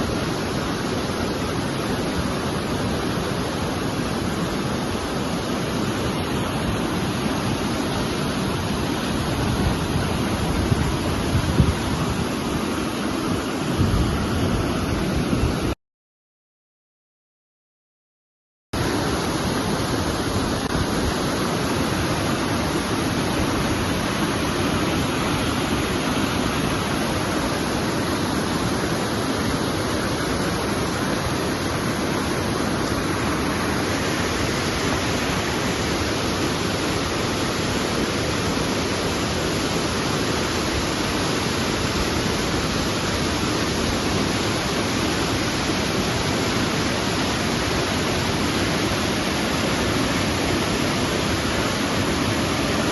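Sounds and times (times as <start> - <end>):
waterfall rushing: 0.0 - 15.8, 18.8 - 52.9.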